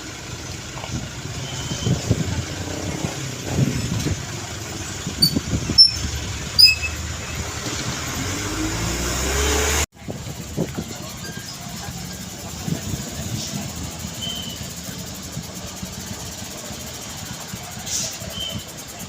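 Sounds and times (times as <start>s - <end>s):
heavy truck engine accelerating: 0.0s - 19.0s
roadside traffic: 0.0s - 19.0s.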